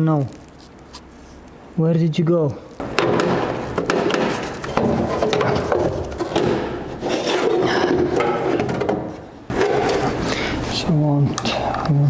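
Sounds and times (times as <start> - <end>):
rustling and scraping: 0.2 - 1.6, 2.8 - 12.0.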